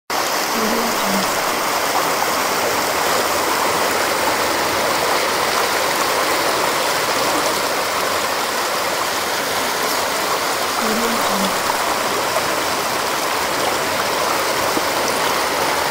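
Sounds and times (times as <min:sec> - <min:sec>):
river rushing: 0:00.1 - 0:15.9.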